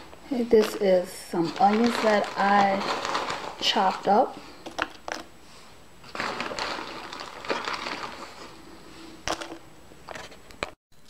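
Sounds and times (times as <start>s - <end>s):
onion rustling: 0.0s - 9.4s.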